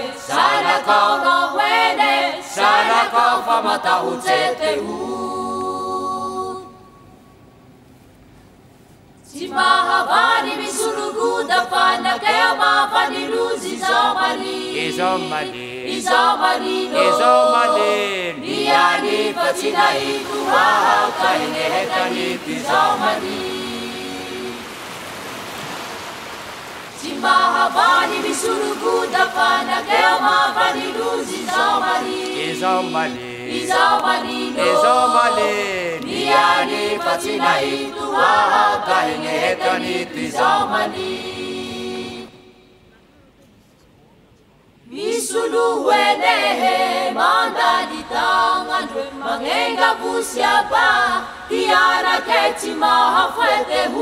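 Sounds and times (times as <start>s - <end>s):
choir singing: 0.0s - 7.0s, 9.3s - 24.9s, 26.9s - 42.6s, 44.9s - 54.0s.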